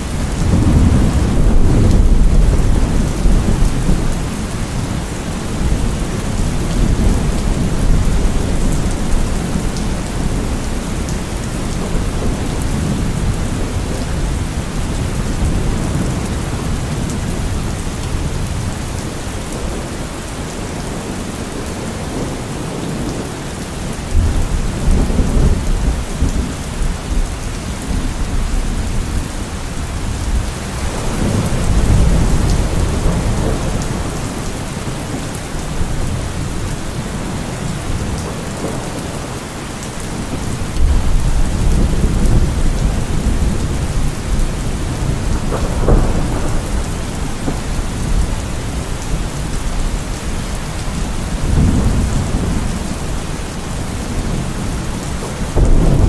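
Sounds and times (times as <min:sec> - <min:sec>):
rolling thunder: 0:00.0 - 0:39.4, 0:40.0 - 0:56.0
steady rain: 0:00.0 - 0:56.0.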